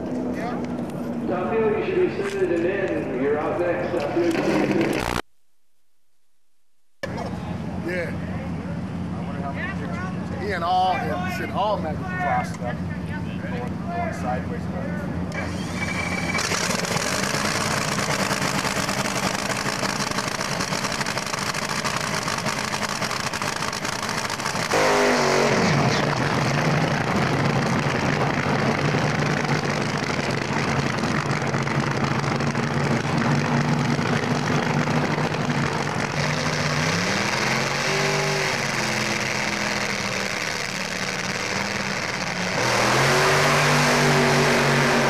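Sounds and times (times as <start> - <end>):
drag racing engines revving: 0.0 - 5.2, 7.0 - 45.0.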